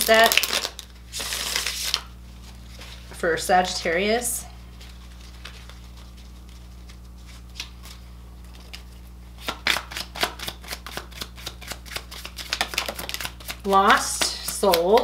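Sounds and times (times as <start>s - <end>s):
cards being shuffled: 0.0s - 2.1s, 4.8s - 15.0s
low steady hum: 0.0s - 15.0s.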